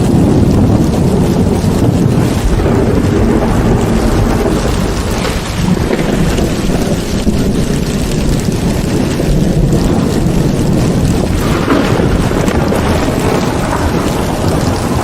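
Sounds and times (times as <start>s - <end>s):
heavy rain pouring: 0.0s - 15.0s
thunder rumbling: 0.0s - 15.0s.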